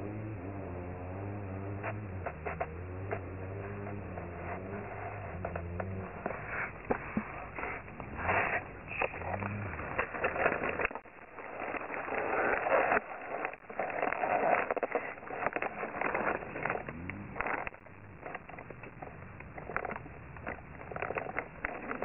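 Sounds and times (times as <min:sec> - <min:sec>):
low rumbling: 0:00.0 - 0:22.0.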